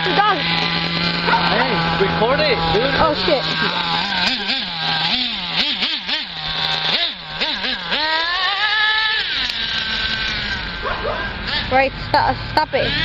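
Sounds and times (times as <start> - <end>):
small nitro engine revving: 0.0 - 13.0.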